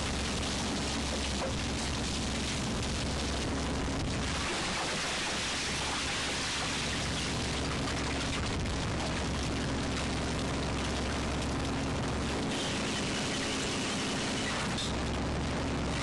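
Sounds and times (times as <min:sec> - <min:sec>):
boat engine humming: 0:00.0 - 0:04.6, 0:05.3 - 0:16.0.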